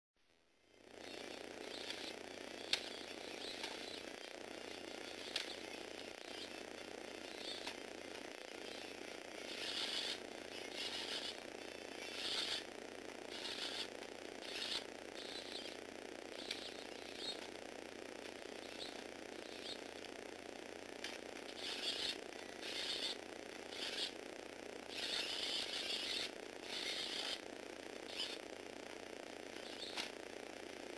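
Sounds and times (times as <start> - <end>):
toy car electric motor and gears: 0.7 - 17.5, 18.4 - 20.1, 21.0 - 28.5, 29.5 - 30.2.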